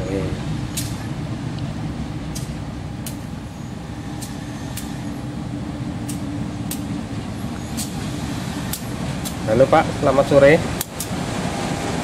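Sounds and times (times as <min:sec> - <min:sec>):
locomotive idling rumble: 0:00.0 - 0:12.0.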